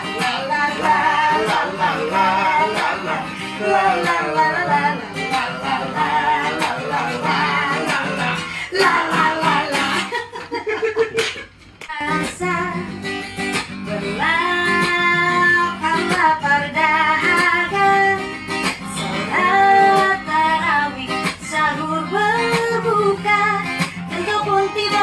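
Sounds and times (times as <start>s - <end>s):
woman singing: 0.0s - 10.3s, 11.8s - 13.2s, 13.8s - 25.0s
strummed acoustic guitar: 0.0s - 25.0s.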